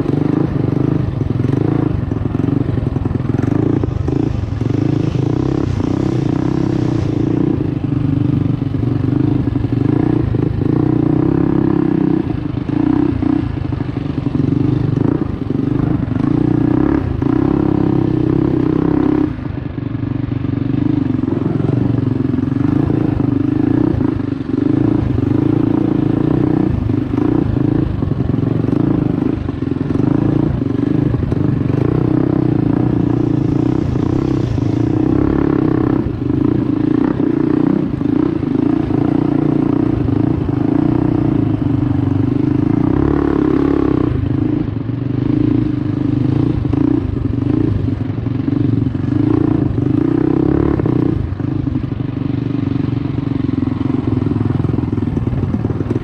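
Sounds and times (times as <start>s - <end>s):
mini bike engine running: 0.0s - 56.0s.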